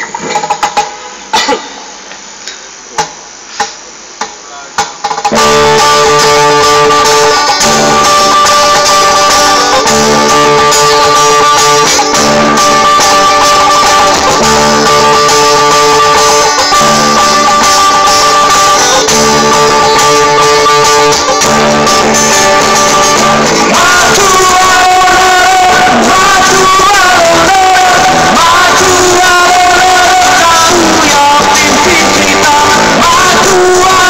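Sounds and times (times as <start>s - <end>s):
acoustic and electric guitars: 4.6s - 34.0s.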